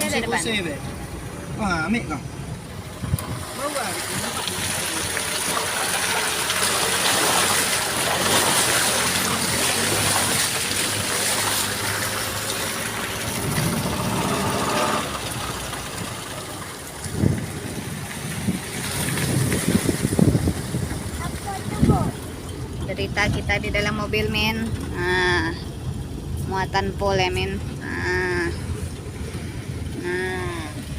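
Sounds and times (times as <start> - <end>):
road and tyre noise: 0.0 - 30.9
vehicle engine running: 0.0 - 30.9.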